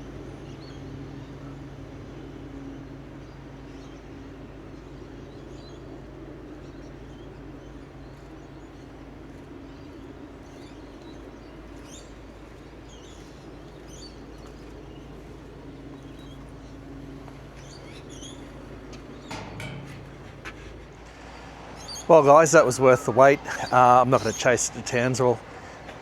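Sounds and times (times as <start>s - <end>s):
low engine drone: 0.0s - 26.0s
small birds chirping: 0.0s - 26.0s.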